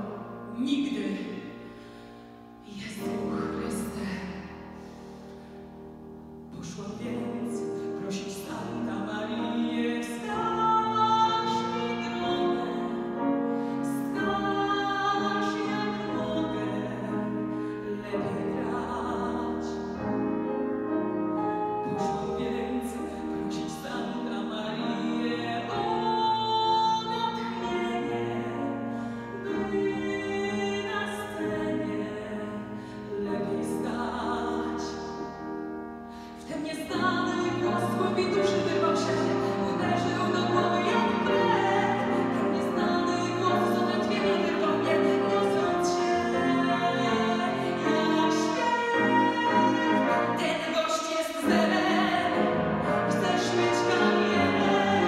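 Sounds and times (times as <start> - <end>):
woman singing: 0.0 - 1.7, 2.6 - 4.8, 6.5 - 20.5, 21.2 - 35.6, 36.2 - 55.0
grand piano: 0.0 - 55.0.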